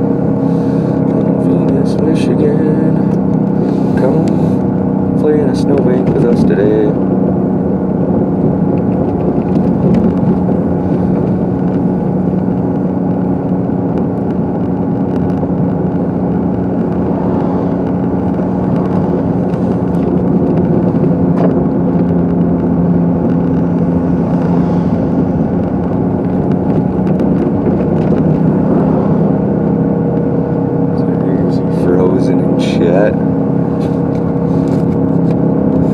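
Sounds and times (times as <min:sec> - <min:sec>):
car engine and road noise: 0:00.0 - 0:35.9.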